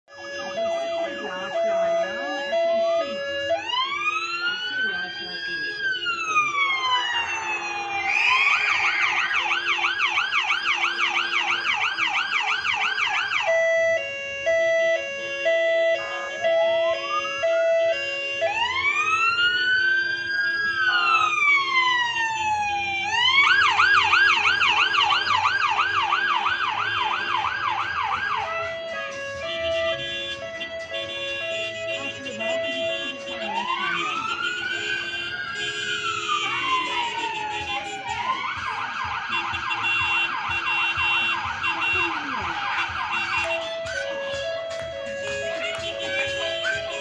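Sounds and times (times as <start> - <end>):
police car siren: 0.1 - 47.0.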